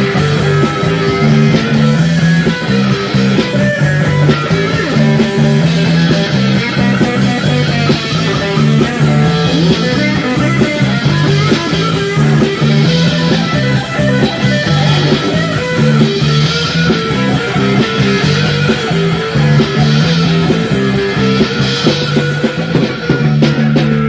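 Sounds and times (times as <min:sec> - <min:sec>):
bass guitar riff: 0:00.0 - 0:24.0
drums with cymbal crashes: 0:00.0 - 0:24.0
electric guitar: 0:00.0 - 0:24.0.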